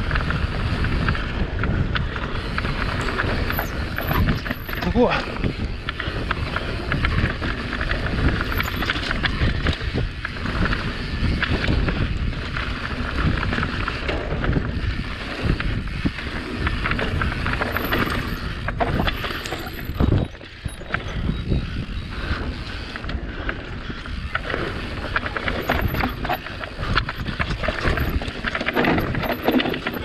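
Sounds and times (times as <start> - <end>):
tyres rolling over dirt and stones: 0.0 - 21.1, 23.0 - 30.0
bike clattering and knocking: 0.0 - 21.2, 23.0 - 30.0
wind buffeting microphone: 0.0 - 30.0.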